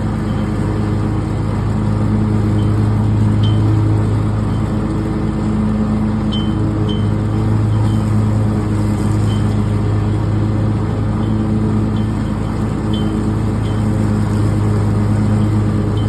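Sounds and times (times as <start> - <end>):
riding lawn mower engine: 0.0 - 16.0.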